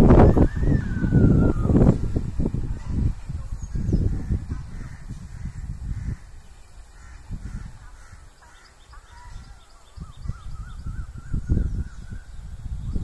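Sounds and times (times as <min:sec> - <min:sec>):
birds trilling and chirping: 0:00.0 - 0:13.0.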